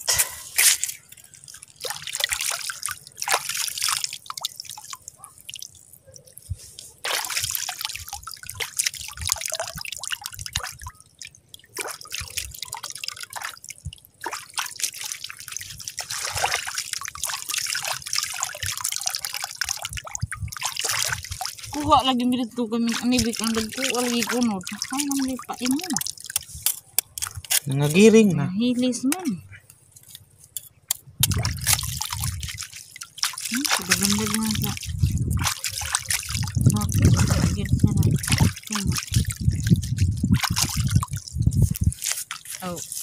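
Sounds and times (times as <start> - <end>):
water dripping into tide pool: 0.0 - 28.1, 28.7 - 43.0.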